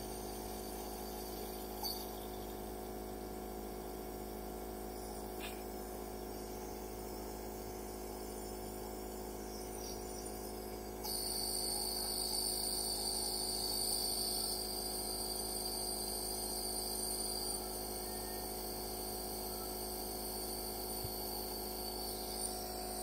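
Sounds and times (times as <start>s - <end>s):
electric motor hum: 0.0s - 23.0s
high-pitched whine: 0.0s - 23.0s.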